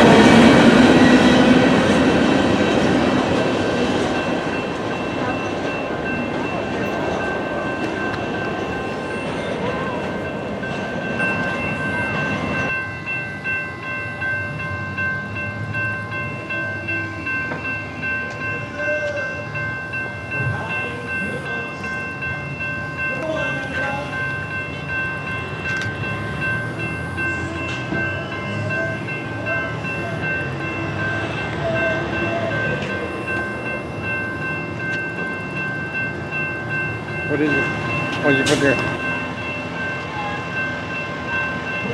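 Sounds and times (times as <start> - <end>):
high ringing tone: 0.0 - 41.9
train passing rumble: 0.0 - 41.9.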